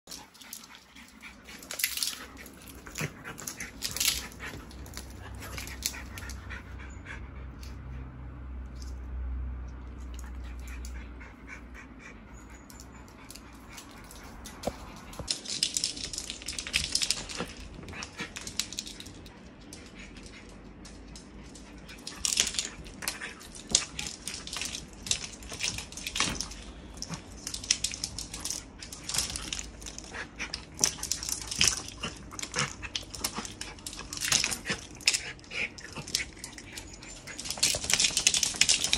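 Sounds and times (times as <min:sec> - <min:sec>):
dog claws clicking on wooden floor: 0:00.1 - 0:06.6, 0:12.7 - 0:38.9.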